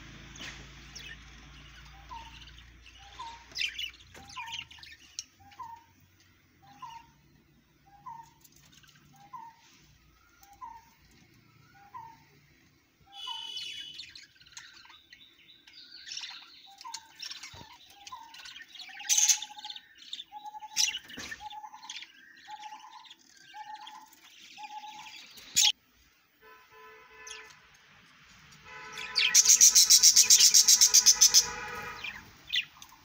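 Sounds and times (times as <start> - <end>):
budgerigars chirping and chattering: 0.4 - 12.4, 13.1 - 25.8, 28.8 - 33.0.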